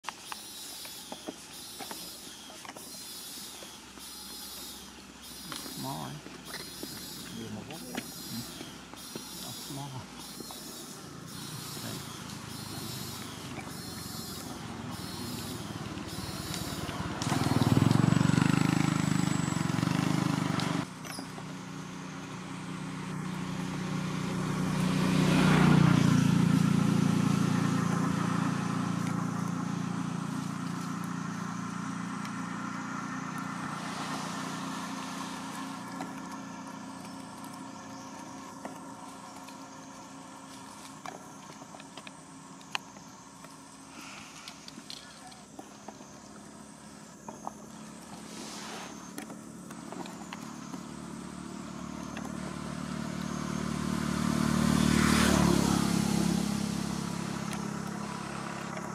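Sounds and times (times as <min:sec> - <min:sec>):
low engine hum: 0:00.0 - 0:58.9
vehicle passing: 0:03.0 - 0:44.4, 0:45.8 - 0:58.9.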